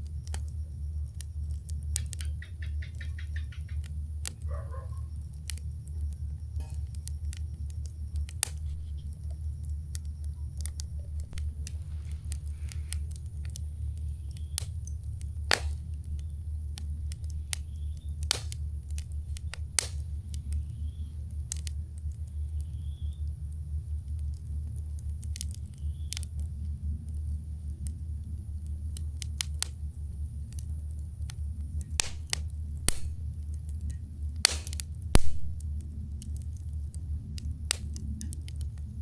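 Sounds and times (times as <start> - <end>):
campfire crackling: 0.0 - 39.0
sharp pops of burning wood: 0.0 - 39.0
steady low rumble: 0.0 - 39.0.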